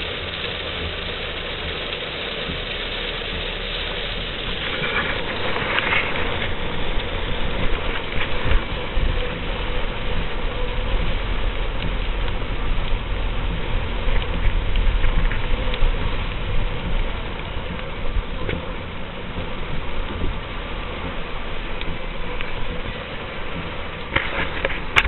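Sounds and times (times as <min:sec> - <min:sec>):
heavy rain striking vehicle: 0:00.0 - 0:25.0
vehicle rumble from inside cabin: 0:00.0 - 0:25.0.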